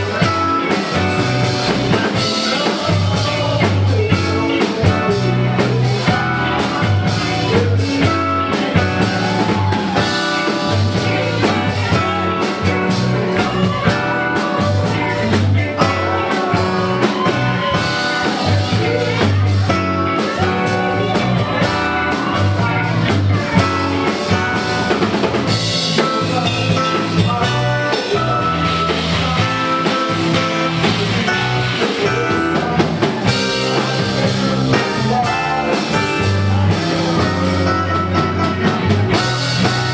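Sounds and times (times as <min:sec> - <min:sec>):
repeating bass line: 0:00.0 - 0:39.9
rock band playing: 0:00.0 - 0:39.9.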